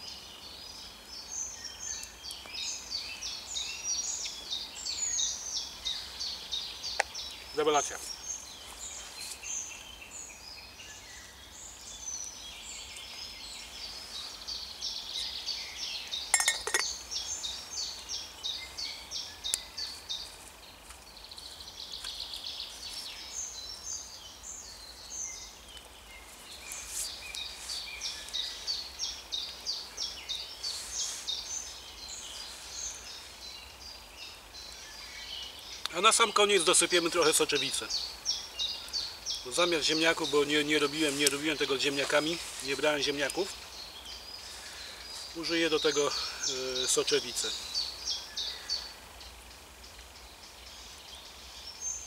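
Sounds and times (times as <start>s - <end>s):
birds singing: 0.0s - 52.0s.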